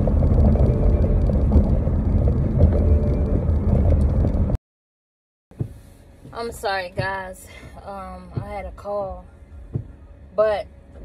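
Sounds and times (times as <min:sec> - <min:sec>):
car cabin road rumble: 0:00.0 - 0:04.6, 0:05.5 - 0:11.0.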